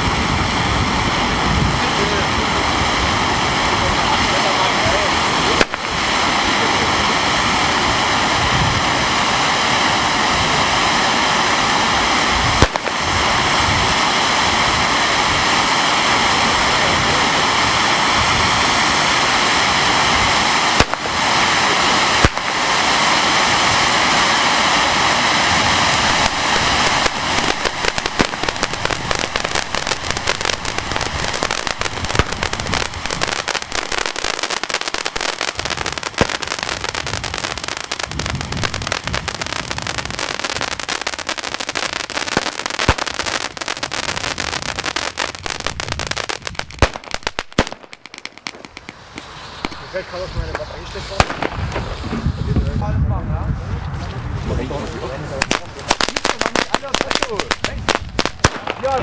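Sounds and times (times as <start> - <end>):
firework crackling pops: 0.0 - 52.7, 55.4 - 59.0
firework fountain hissing: 0.0 - 52.9, 55.1 - 59.0.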